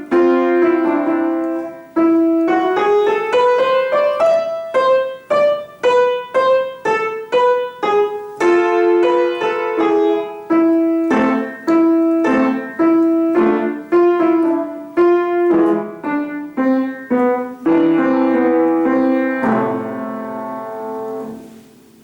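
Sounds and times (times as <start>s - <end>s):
piano notes and chords: 0.0s - 22.0s.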